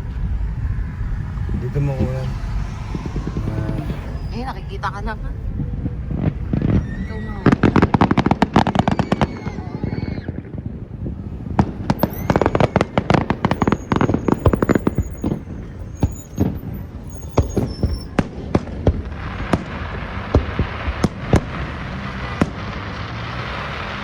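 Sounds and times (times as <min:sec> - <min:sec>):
fireworks bangs and pops: 0:00.0 - 0:24.0.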